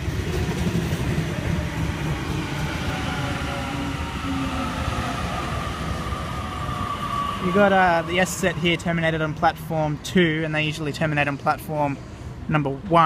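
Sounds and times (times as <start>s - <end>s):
electric train rumble: 0.0s - 12.5s.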